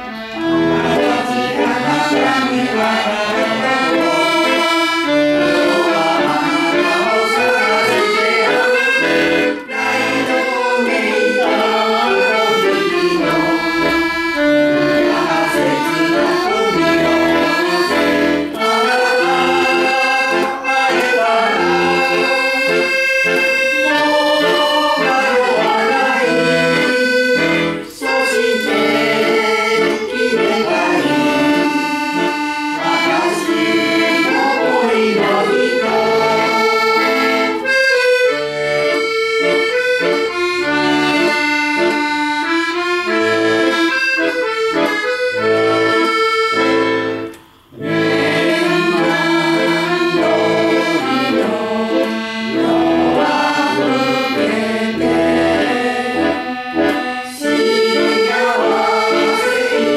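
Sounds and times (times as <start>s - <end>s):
accordion playing a melody: 0.0s - 59.9s.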